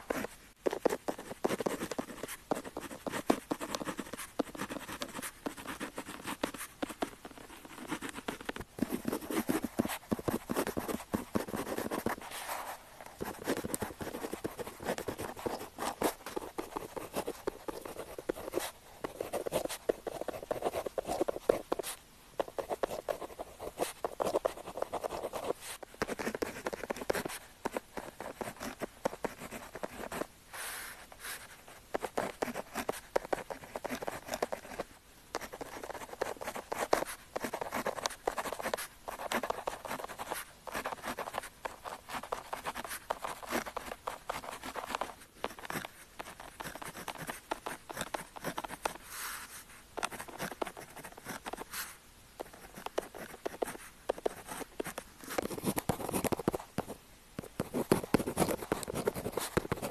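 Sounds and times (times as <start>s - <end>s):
pen scratching on paper: 0.0s - 30.3s, 31.3s - 59.9s.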